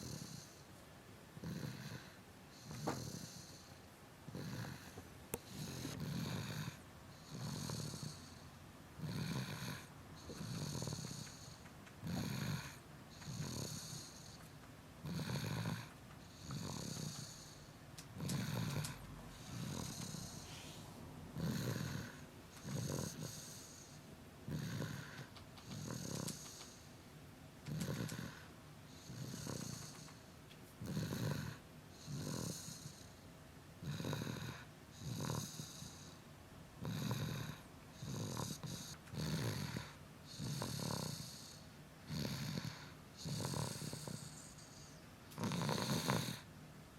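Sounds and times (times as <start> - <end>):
child snoring: 0.0 - 0.6, 1.4 - 14.4, 15.0 - 26.8, 27.7 - 30.2, 30.8 - 33.1, 33.8 - 36.2, 36.8 - 46.5.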